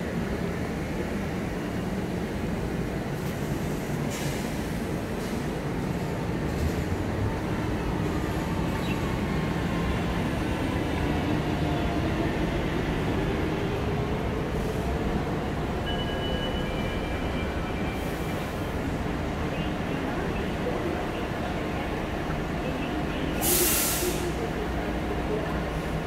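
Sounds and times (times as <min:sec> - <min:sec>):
train rail noise: 0:00.0 - 0:26.0.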